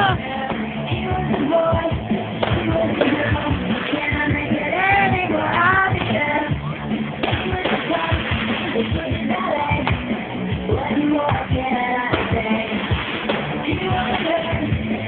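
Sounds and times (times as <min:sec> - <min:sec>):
person singing: 0:00.0 - 0:15.0
rock pop music: 0:00.0 - 0:15.0
steady drum beat: 0:00.0 - 0:15.0.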